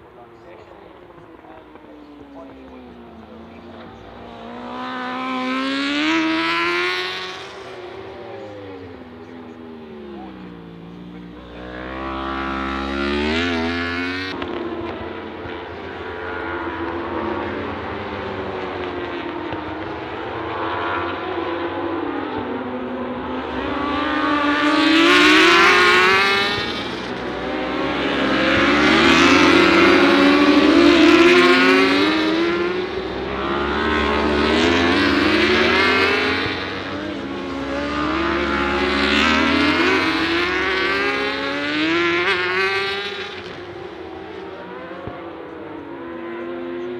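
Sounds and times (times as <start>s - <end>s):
racing motorcycles passing: 0.0s - 46.9s.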